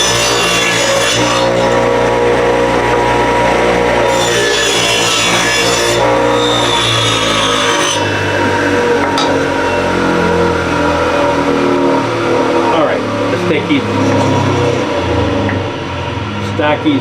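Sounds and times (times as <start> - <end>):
table saw cutting wood: 0.0 - 17.0.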